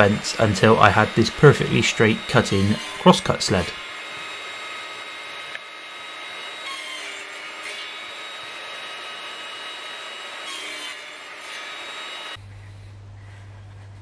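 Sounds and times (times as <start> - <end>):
table saw running: 0.0 - 12.4.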